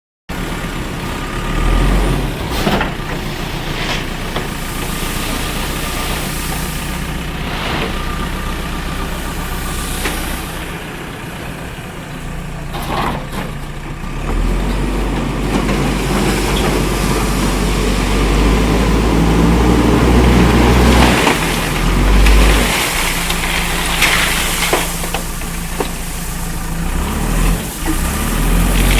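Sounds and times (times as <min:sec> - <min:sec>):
diesel engine running: 0:00.3 - 0:28.9.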